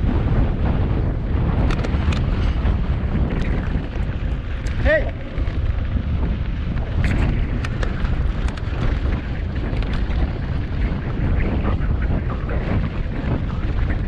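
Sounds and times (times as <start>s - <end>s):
bike clicks and rattles: 0.0s - 14.0s
bike tyres rumbling on dirt: 0.0s - 14.0s
wind buffeting microphone: 0.0s - 14.0s.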